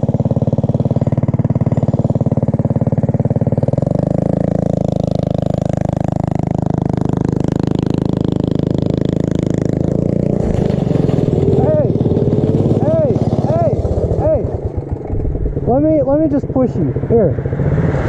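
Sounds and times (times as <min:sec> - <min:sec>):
mini bike engine running: 0:00.0 - 0:18.0.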